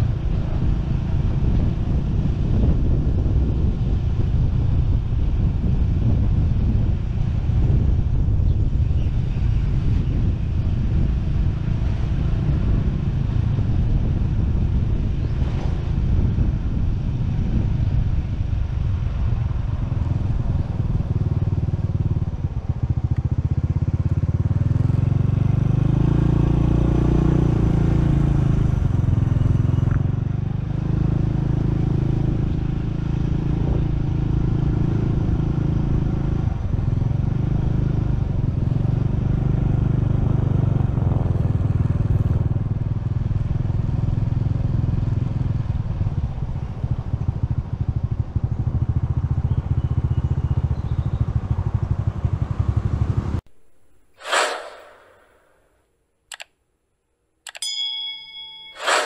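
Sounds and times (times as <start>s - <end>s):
motorcycle engine riding: 0.0s - 53.4s.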